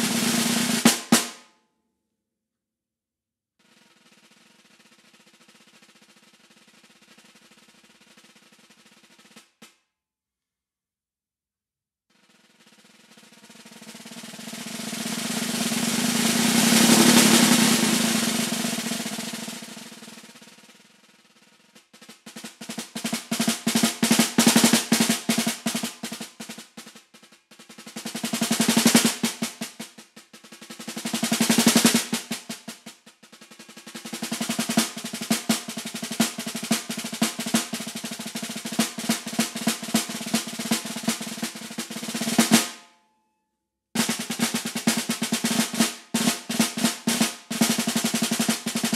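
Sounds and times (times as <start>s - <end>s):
snare drum roll: 0.0s - 1.5s, 3.6s - 9.8s, 12.2s - 42.9s, 44.0s - 48.9s.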